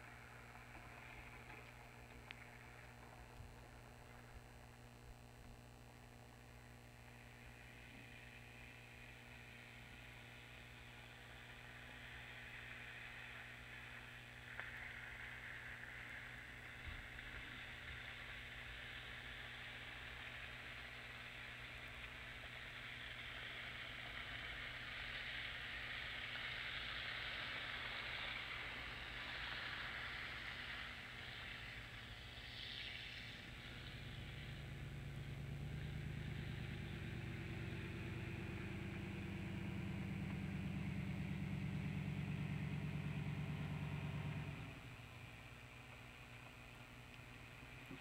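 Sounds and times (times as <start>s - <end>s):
engine humming: 0.0s - 48.0s
steady hiss: 0.0s - 48.0s.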